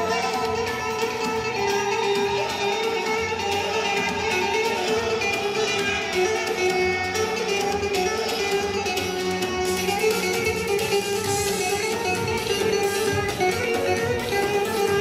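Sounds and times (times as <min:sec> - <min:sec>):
plucked string instrument melody: 0:00.0 - 0:15.0.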